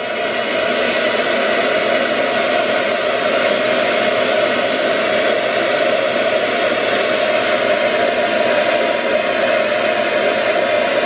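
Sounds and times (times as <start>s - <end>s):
blow dryer running: 0.0s - 11.0s.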